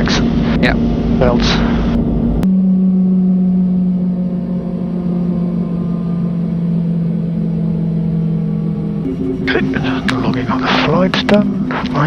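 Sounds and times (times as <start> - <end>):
helicopter running down: 0.0 - 12.0.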